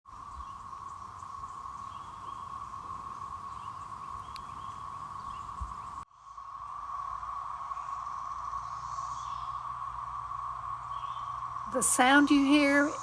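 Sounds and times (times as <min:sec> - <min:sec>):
cicadas chorus drone: 0:00.1 - 0:13.0.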